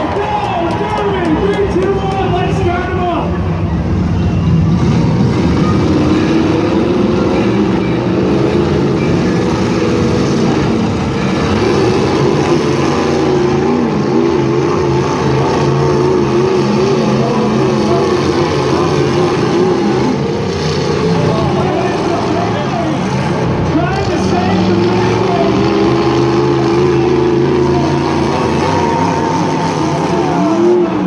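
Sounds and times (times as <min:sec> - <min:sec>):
truck engines revving: 0:00.0 - 0:31.0.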